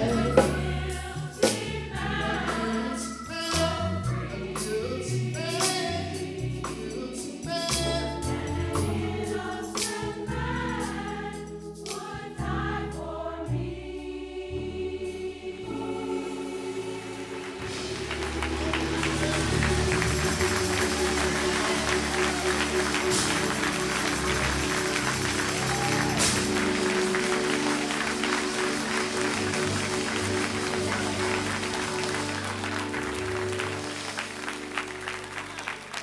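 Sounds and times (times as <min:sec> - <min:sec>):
instrumental accompaniment with beat: 0:00.0 - 0:12.4, 0:17.6 - 0:36.0
gospel choir singing: 0:00.0 - 0:36.0.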